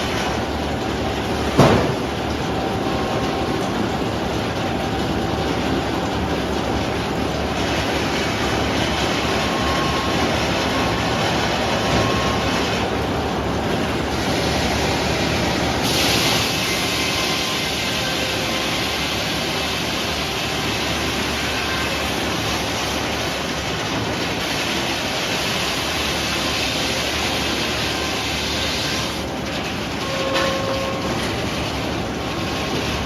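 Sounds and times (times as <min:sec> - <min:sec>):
sawmill cutting a log: 0:00.0 - 0:33.0.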